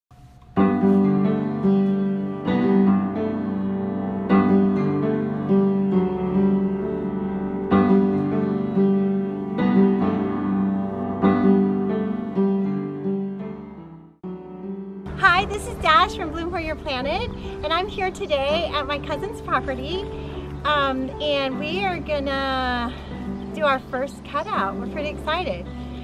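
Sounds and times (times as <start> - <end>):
piano chords: 0.1 - 26.0.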